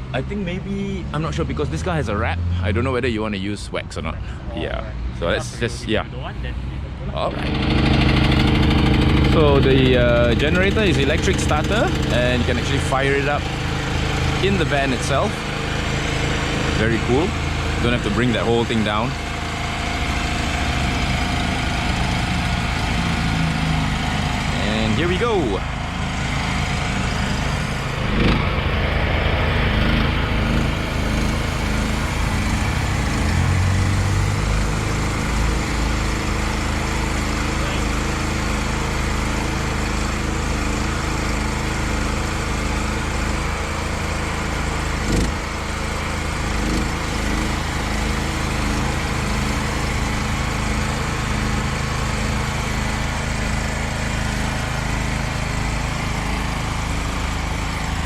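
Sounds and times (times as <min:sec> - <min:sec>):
petrol generator running: 0:07.0 - 0:58.0.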